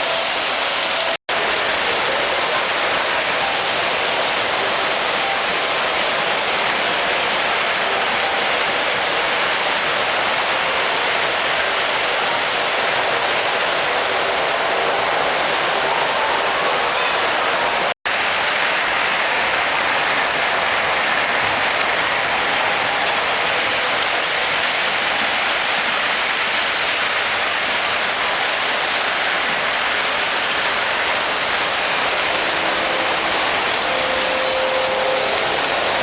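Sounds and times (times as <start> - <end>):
miniature trains rolling on track: 0.0 - 36.0.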